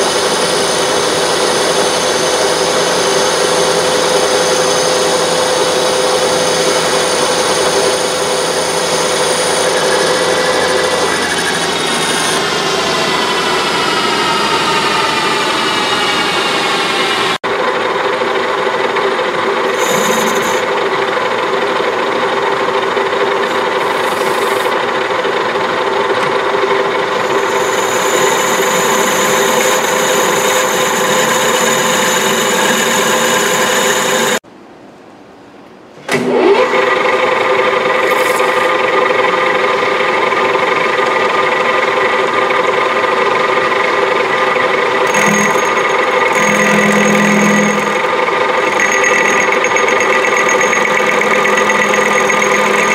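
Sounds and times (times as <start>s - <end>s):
metal lathe humming and whining: 0.0s - 34.4s, 36.7s - 52.9s.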